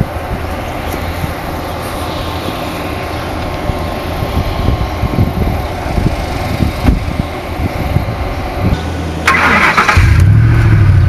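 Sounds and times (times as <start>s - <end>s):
truck engine starting and idling: 0.0s - 11.0s.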